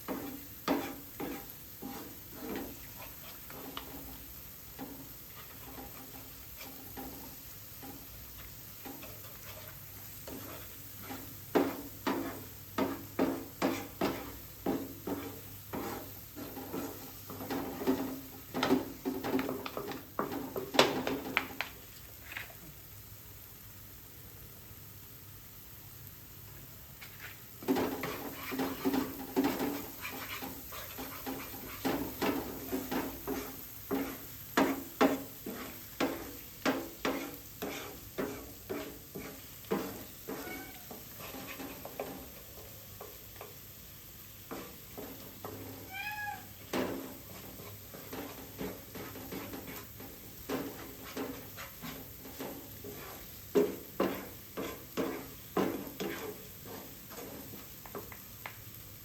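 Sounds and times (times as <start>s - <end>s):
utensil scraping a cooking pan: 0.0s - 21.4s, 27.0s - 58.4s.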